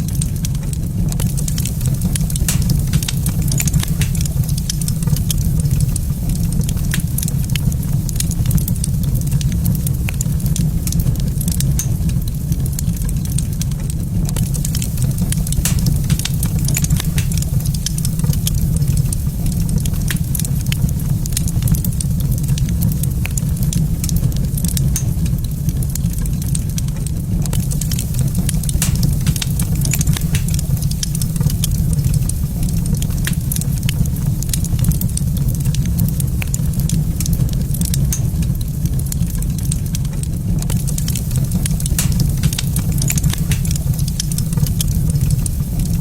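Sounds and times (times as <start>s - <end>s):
low rumble: 0.0s - 46.0s
sharp fire pops: 0.0s - 46.0s
wood fire crackling: 0.0s - 46.0s.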